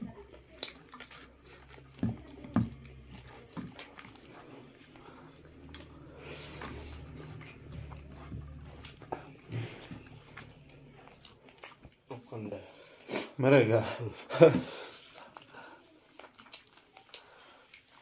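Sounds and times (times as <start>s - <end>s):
chewing and lip-smacking: 0.0s - 12.4s, 15.0s - 18.0s.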